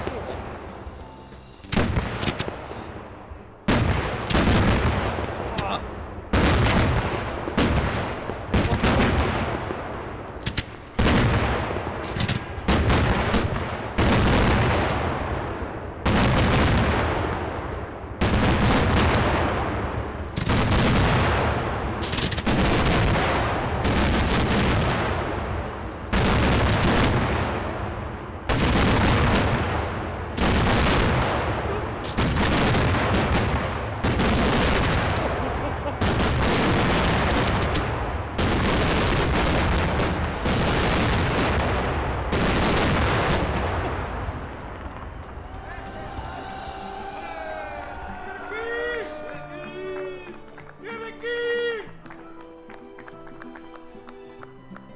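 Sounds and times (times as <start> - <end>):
fireworks bangs: 0.0 - 50.9
fireworks cracks: 0.0 - 54.9.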